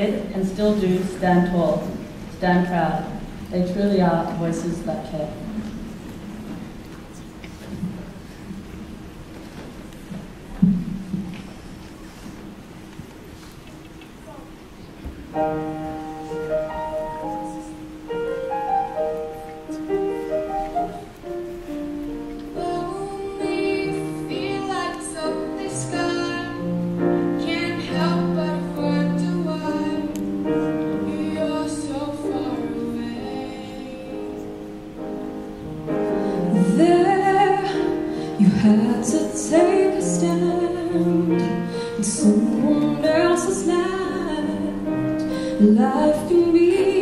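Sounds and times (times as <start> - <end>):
grand piano playing: 0.0 - 13.3, 14.2 - 47.0.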